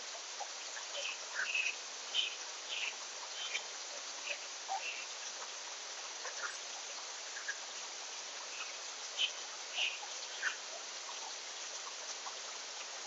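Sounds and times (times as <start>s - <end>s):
faint chirps and ticks: 0.0s - 13.0s
insects hissing: 0.0s - 13.0s.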